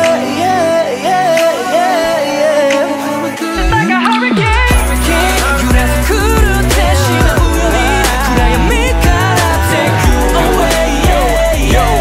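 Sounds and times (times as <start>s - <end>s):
pop song with male vocal: 0.0s - 12.0s.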